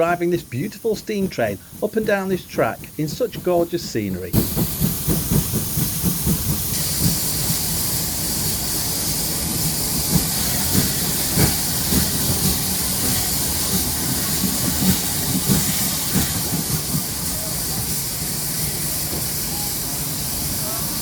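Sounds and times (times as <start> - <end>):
train knocks: 0.0 - 20.9
steam hissing: 0.0 - 21.0
train rumbling: 0.0 - 21.0.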